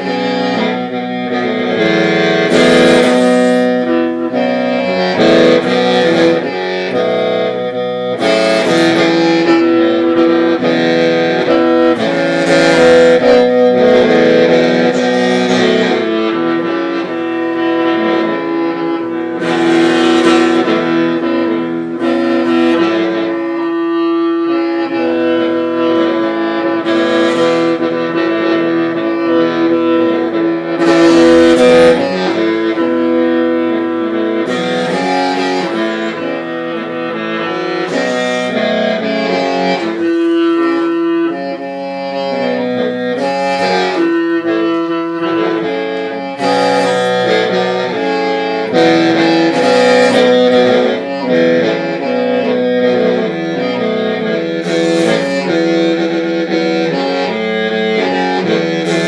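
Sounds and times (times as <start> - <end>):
bamboo mouth organ melody: 0.0 - 59.0.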